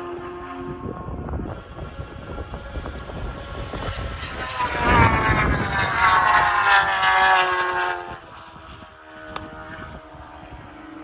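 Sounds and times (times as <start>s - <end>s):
motorcycle passing at full throttle: 0.0s - 11.0s.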